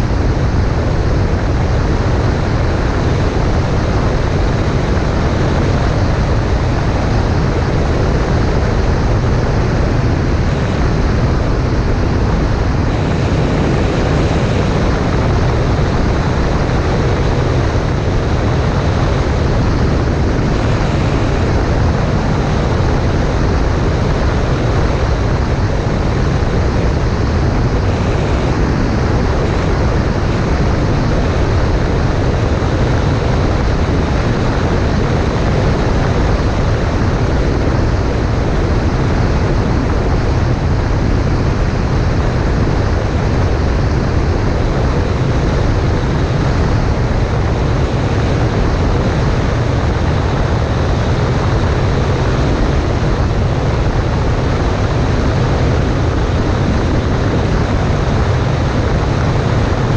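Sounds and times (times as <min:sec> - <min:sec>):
airplane engine and propeller drone: 0:00.0 - 0:59.9
wind rushing over microphone: 0:00.0 - 0:59.9.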